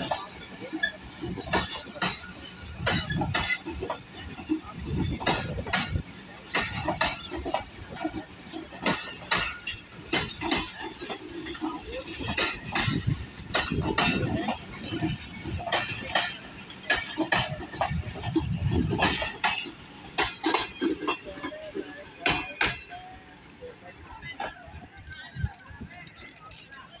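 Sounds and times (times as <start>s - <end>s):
metallic clanks and clinks: 0.0s - 23.1s, 26.1s - 27.0s
train wheels clattering over joints: 0.0s - 27.0s.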